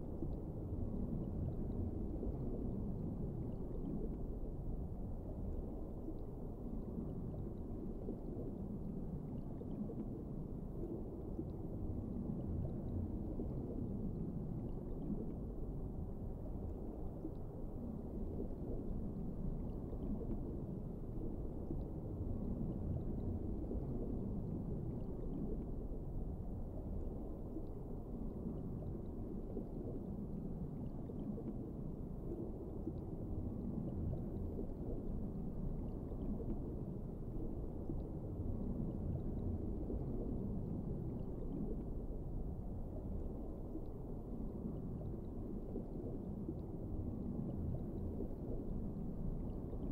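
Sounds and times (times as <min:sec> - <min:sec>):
muffled underwater rumble: 0:00.0 - 0:49.9.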